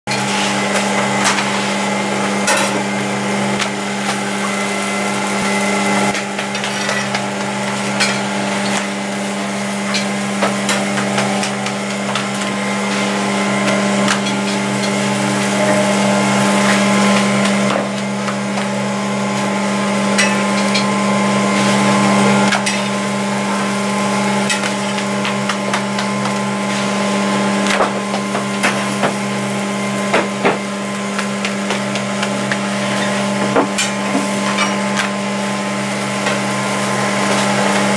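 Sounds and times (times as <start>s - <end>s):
machine hum: 0.1s - 37.9s.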